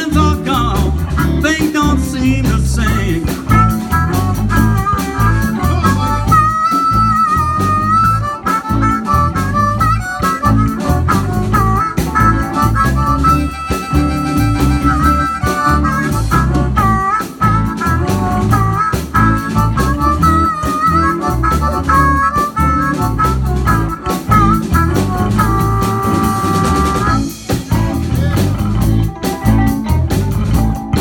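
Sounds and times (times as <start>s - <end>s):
blues band playing: 0.0s - 31.0s
harmonica solo: 0.0s - 31.0s.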